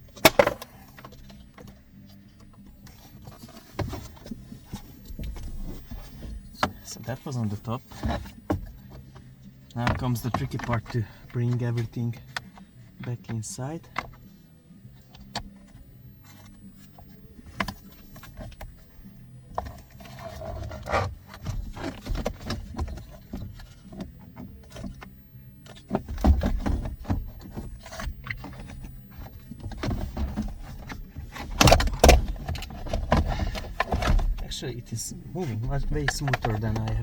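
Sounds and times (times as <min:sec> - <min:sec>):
plastic parts scraping and clicking: 0:00.0 - 0:14.3, 0:15.0 - 0:37.0.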